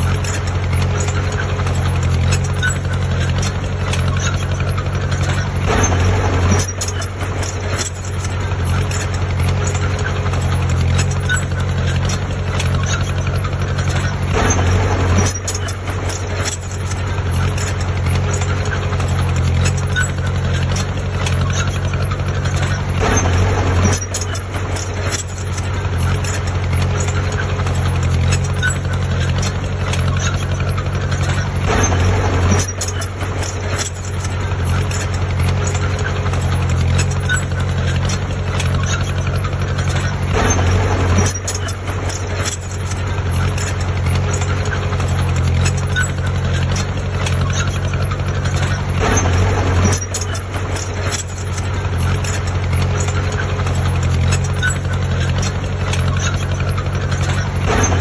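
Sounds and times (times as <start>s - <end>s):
clanks and clicks: 0.0s - 58.0s
diesel construction machine running: 0.0s - 58.0s.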